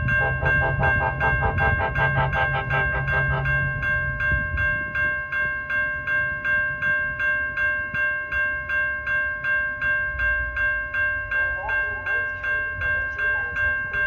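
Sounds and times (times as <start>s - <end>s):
crossing bell ringing: 0.0s - 14.0s
low rumble of train: 0.0s - 14.0s.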